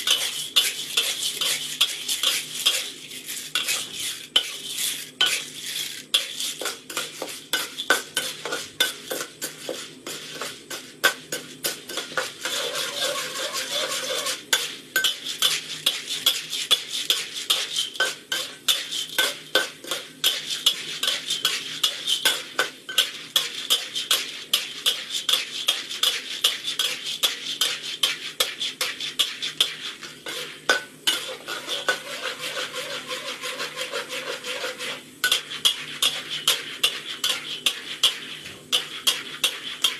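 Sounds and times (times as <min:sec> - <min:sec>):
spatula scraping kernels in wok: 0:00.0 - 0:39.9.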